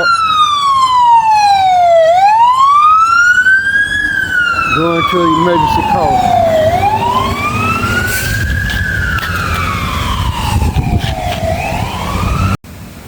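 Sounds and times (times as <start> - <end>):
fire truck siren wailing: 0.0 - 12.6.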